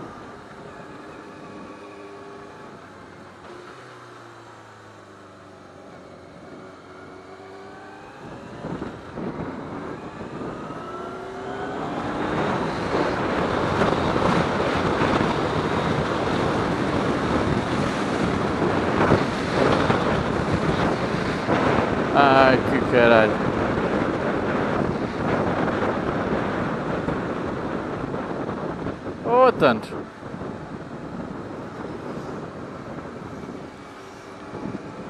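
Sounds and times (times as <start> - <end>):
motorcycle engine accelerating: 0.0 - 29.1
wind rushing over microphone: 5.6 - 35.0.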